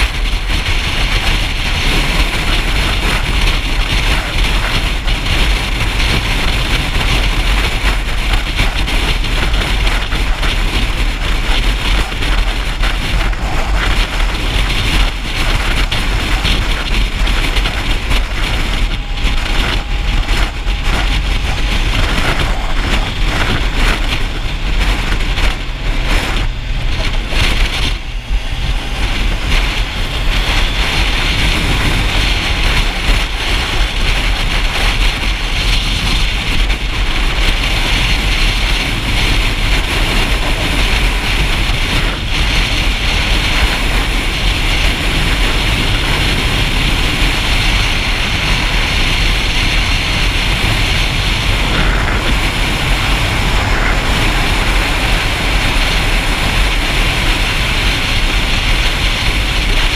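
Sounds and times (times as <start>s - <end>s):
motorcycle engine: 0.0s - 59.9s
wind rush over microphone: 0.0s - 59.9s.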